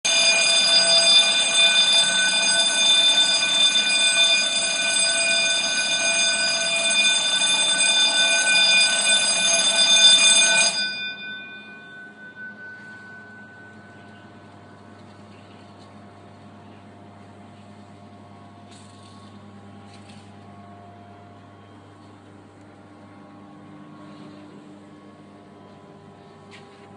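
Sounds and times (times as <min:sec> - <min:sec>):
electric alarm bell ringing: 0:00.0 - 0:16.4, 0:17.0 - 0:26.9.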